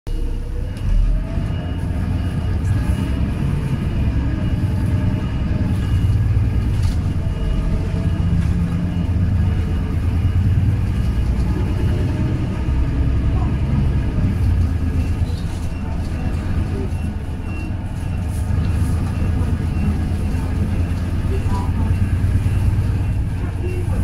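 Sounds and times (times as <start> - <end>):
bus engine rumbling: 0.1 - 24.0.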